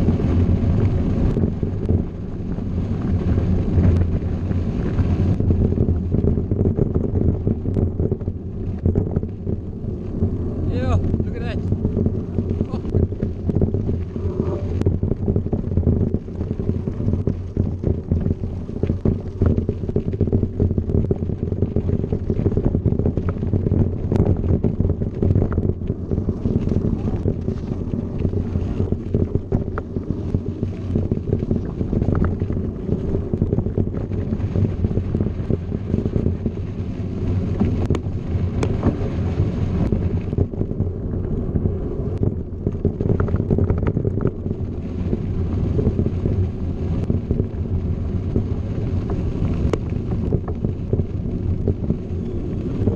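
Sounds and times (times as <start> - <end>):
bike rolling over gravel: 0.0 - 52.9
wind buffeting: 0.0 - 52.9.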